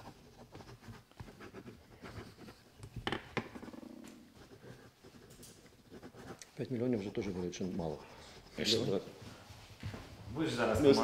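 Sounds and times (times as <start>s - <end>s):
pens scratching on paper: 0.0s - 11.0s.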